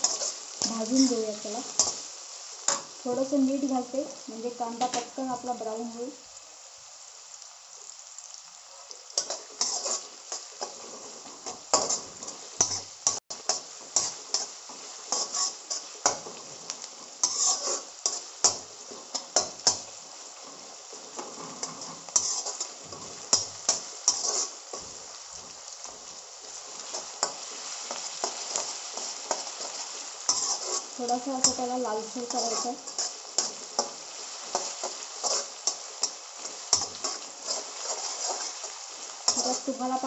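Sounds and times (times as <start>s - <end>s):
metal spatula scraping wok: 0.0s - 2.1s, 9.2s - 40.0s
onions sizzling in oil: 0.0s - 40.0s.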